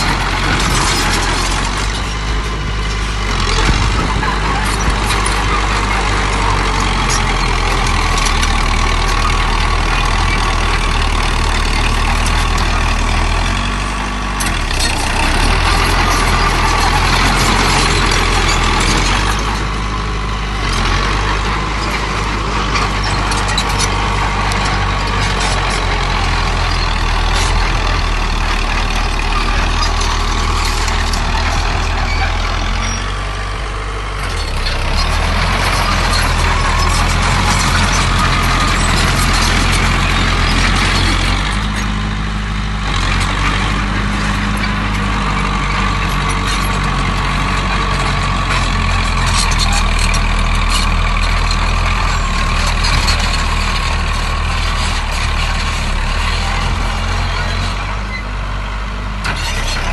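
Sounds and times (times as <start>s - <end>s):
diesel engines of heavy machinery: 0.0s - 59.9s.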